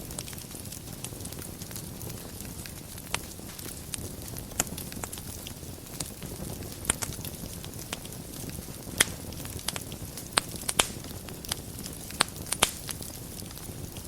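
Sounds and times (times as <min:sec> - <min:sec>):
fire crackling and popping: 0:00.0 - 0:14.0
fire hissing and rumbling: 0:00.0 - 0:14.0.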